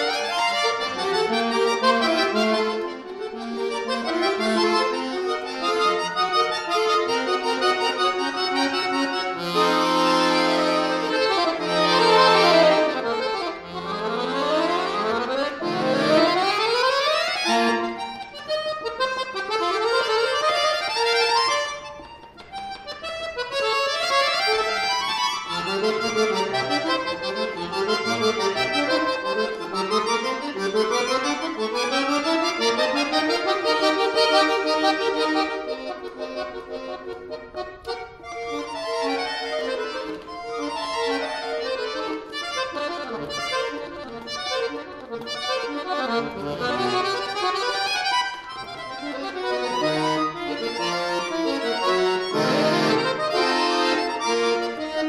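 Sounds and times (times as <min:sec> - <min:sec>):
button accordion playing fast: 0:00.0 - 0:55.0.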